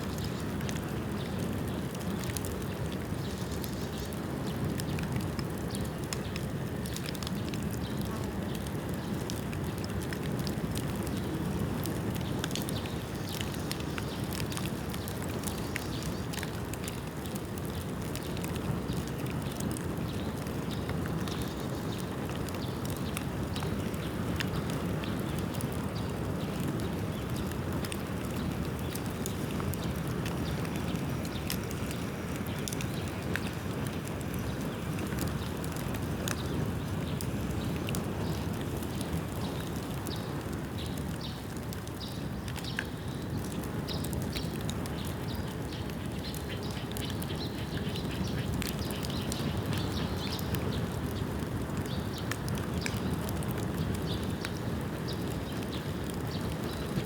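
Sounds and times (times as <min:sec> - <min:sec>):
fire crackles and pops: 0:00.0 - 0:57.0.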